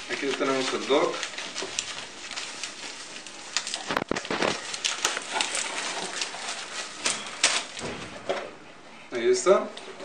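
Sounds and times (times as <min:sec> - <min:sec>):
bubble wrap crinkling: 0:00.0 - 0:08.2.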